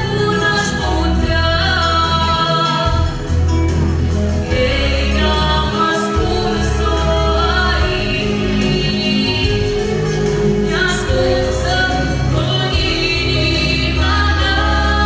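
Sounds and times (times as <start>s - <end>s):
instrumental accompaniment with beat: 0.0s - 15.0s.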